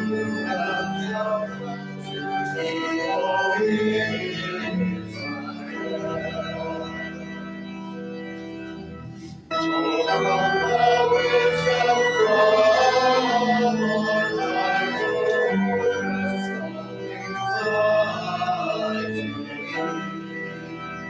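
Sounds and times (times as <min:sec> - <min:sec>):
church organ playing hymn: 0:00.0 - 0:21.0.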